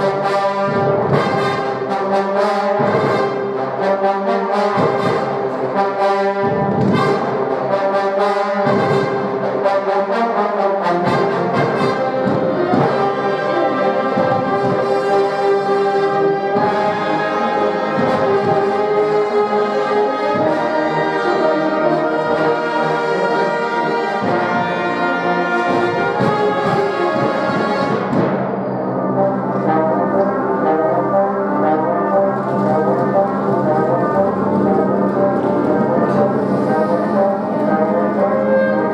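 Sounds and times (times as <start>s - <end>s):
brass ensemble playing chords: 0.0s - 38.9s.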